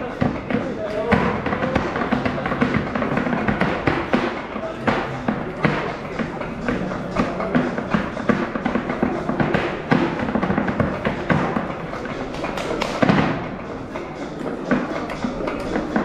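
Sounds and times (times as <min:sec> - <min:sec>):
short irregular thumps and taps: 0:00.0 - 0:13.6.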